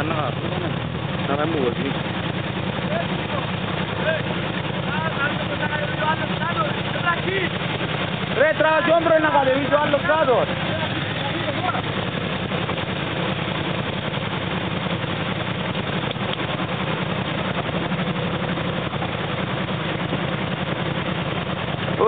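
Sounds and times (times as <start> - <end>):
quad bike engine running: 0.0 - 22.0
suv engine crawling uphill: 0.0 - 22.0.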